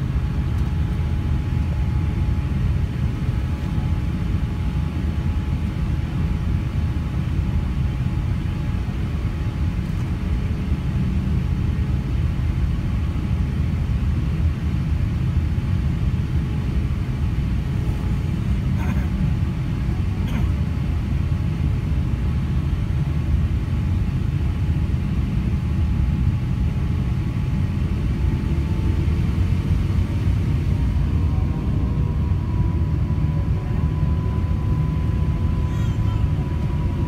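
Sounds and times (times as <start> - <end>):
aircraft cabin rumble while taxiing: 0.0 - 37.0
faint jet engine whine: 0.0 - 37.0.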